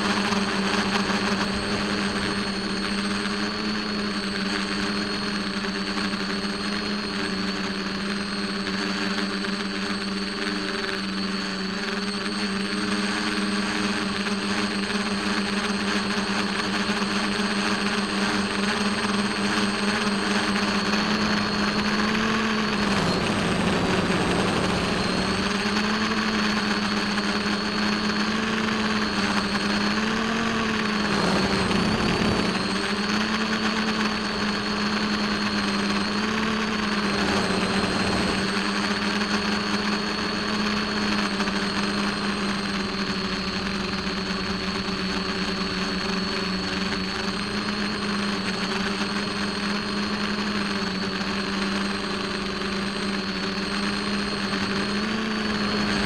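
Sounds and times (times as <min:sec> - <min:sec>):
electric motor and propeller whine: 0:00.0 - 0:56.0.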